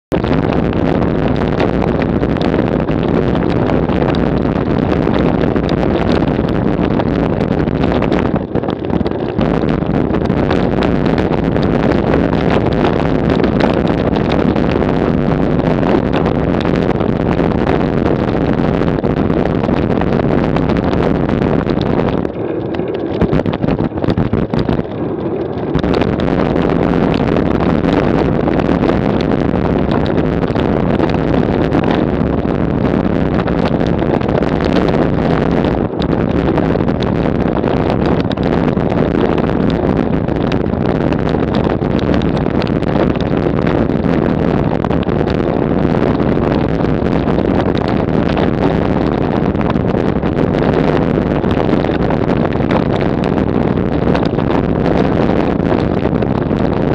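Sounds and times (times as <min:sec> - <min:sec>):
wind on microphone: 0:00.0 - 0:56.9.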